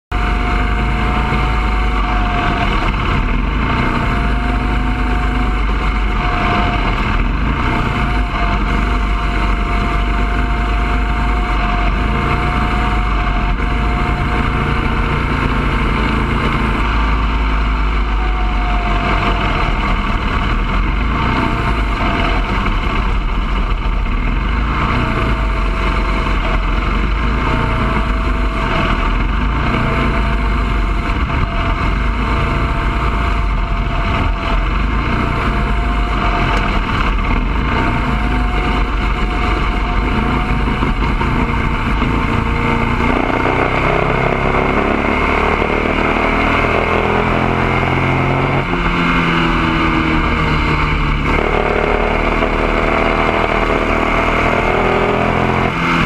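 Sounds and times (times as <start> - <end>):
race car engine droning: 0.0 - 56.0.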